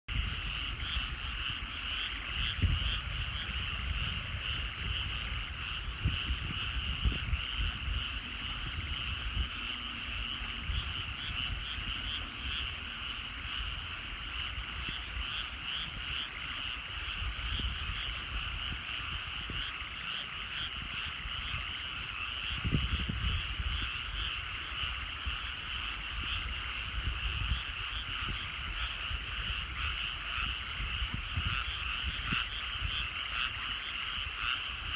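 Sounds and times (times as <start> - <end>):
chorus of frogs calling: 0.1 - 34.9.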